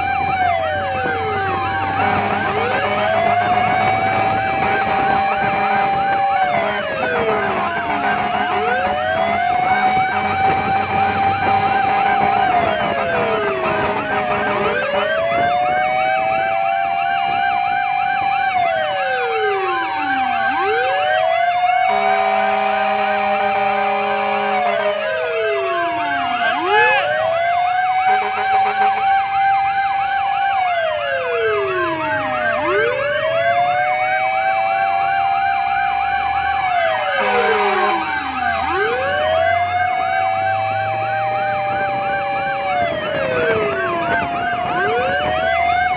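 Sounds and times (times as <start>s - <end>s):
fire engine horn blast: 0.0s - 18.1s, 21.6s - 29.8s, 33.8s - 45.3s
fire engine siren wailing: 0.0s - 45.9s.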